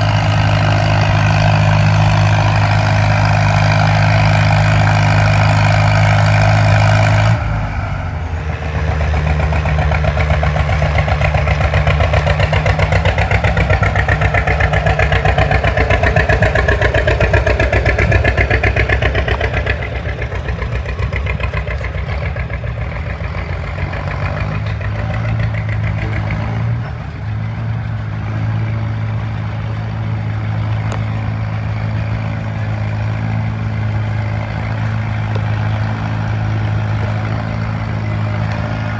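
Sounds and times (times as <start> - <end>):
tractor engine under load: 0.0 - 38.9.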